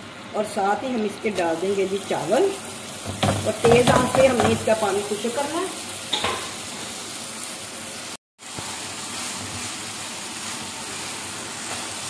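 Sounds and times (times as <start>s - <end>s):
rice sizzling in a wok: 0.9s - 12.0s.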